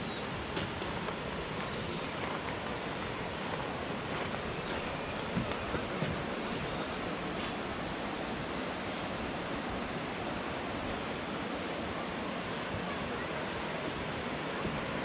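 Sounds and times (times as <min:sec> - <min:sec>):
mountain stream flowing over rocks: 0:00.0 - 0:15.0.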